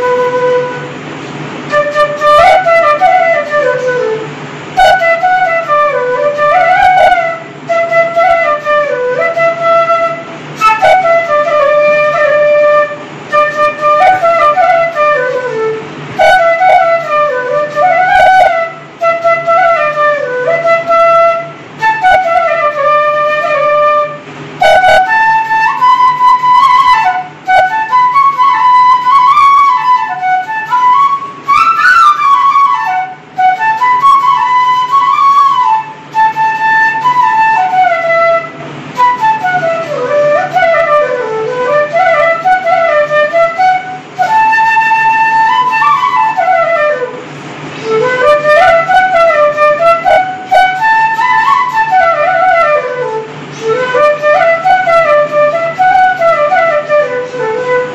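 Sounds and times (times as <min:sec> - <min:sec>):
flute melody: 0:00.0 - 0:57.9.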